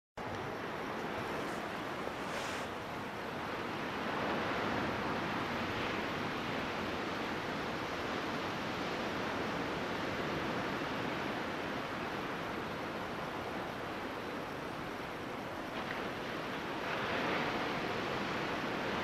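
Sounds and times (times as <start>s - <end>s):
ocean surf washing on beach: 0.2s - 19.0s.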